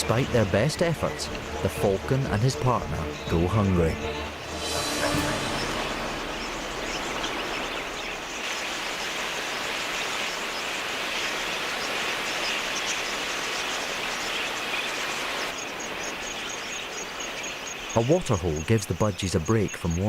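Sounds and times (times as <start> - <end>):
flock of budgerigars chattering: 0.0 - 4.2, 6.4 - 20.0.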